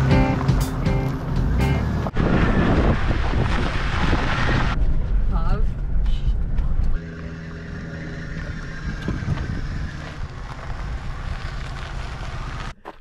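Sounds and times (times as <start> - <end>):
low wind rumble: 0.0 - 12.8
vehicle engine humming: 0.0 - 13.0.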